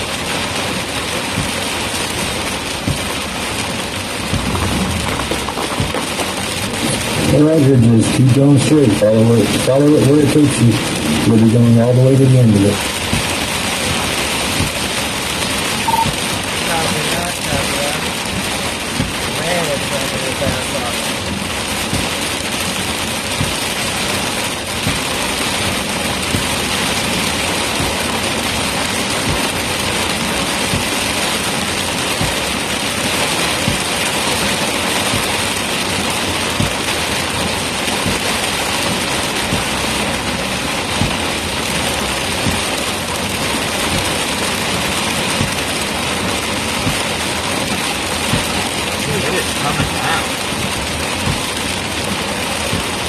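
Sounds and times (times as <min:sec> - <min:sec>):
heavy rain on car roof: 0:00.0 - 0:53.0
road and engine noise: 0:00.0 - 0:53.0.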